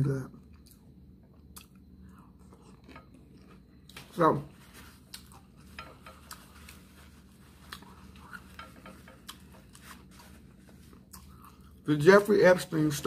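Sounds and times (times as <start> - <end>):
steady low hum: 0.0 - 13.0
chewing crunchy taco: 0.4 - 11.9.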